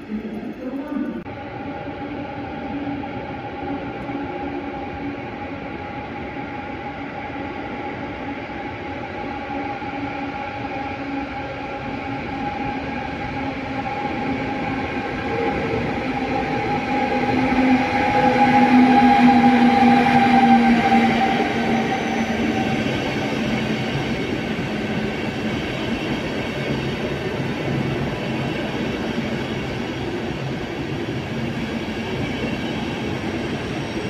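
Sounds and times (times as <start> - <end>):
electric locomotive whining: 0.0 - 34.0.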